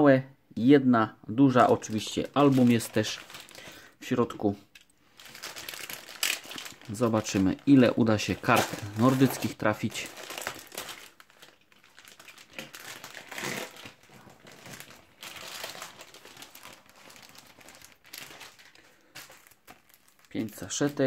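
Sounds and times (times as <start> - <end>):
plastic bag crinkling: 1.5 - 3.9, 4.6 - 21.0.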